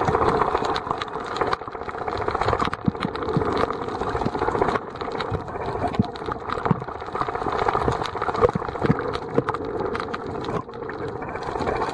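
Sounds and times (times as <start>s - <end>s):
underwater crackling clicks: 0.0s - 11.9s.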